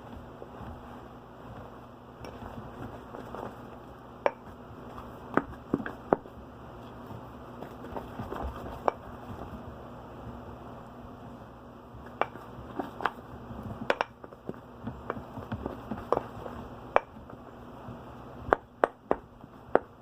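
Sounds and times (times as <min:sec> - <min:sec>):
low room noise: 0:00.0 - 0:20.0.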